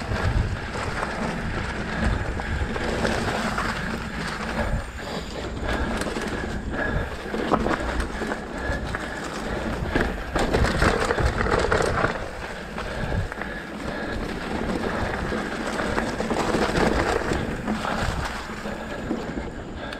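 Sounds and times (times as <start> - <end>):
bike clattering and rattling: 0.0 - 19.9
bike tyres on dirt and leaves: 0.0 - 19.9.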